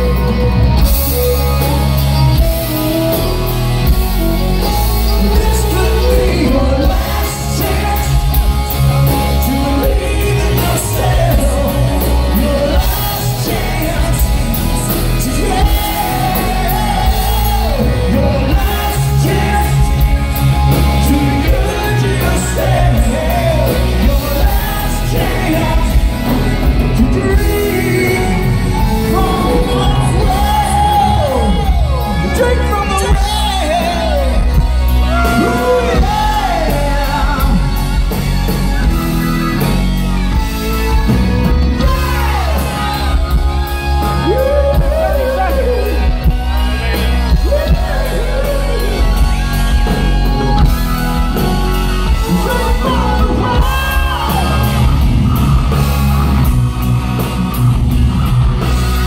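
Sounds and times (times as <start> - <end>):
lead vocal singing: 0.0 - 39.8, 41.0 - 56.6
live rock band playing: 0.0 - 59.0.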